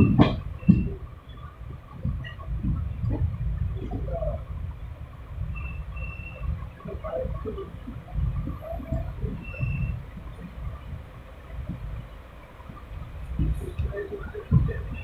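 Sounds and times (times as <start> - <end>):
train coach rumbling on track: 0.0 - 15.0
wind buffeting microphone: 0.0 - 15.0.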